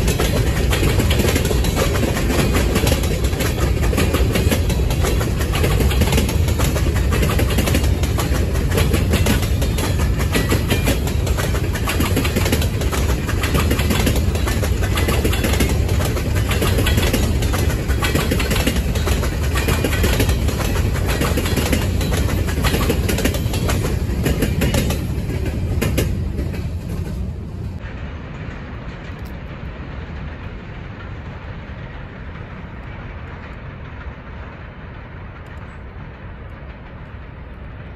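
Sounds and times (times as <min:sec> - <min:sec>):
distant train rumble: 0:00.0 - 0:37.9
train wheels clicking on rail joints: 0:00.0 - 0:37.9.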